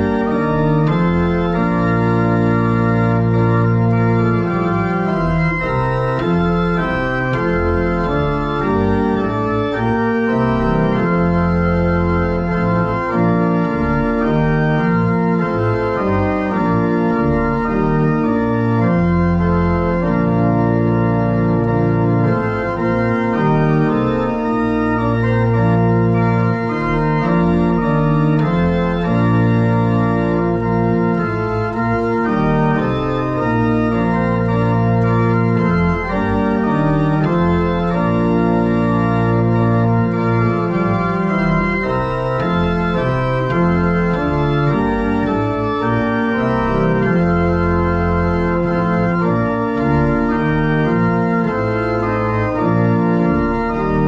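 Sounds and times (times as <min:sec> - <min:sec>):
church organ chords: 0:00.0 - 0:54.0.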